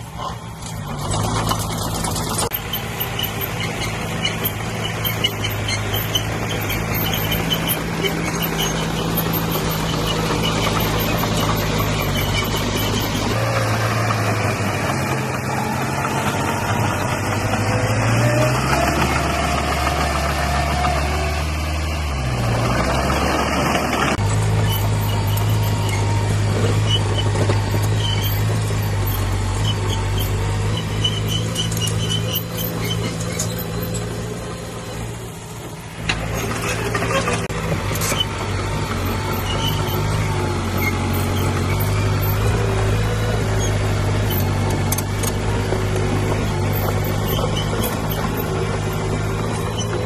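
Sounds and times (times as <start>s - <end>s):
dense mechanical noise: 0.0s - 50.0s
heavy diesel engine running: 0.0s - 50.0s.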